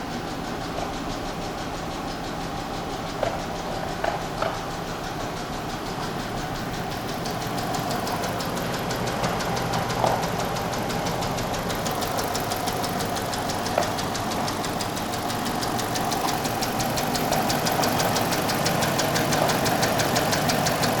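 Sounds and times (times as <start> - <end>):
car engine with ticking knock: 0.0 - 21.0.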